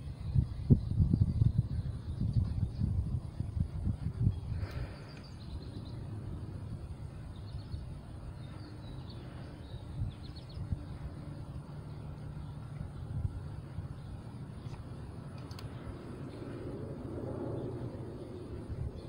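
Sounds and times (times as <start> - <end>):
low outdoor rumble: 0.0 - 19.0
birds chirping: 0.2 - 19.0.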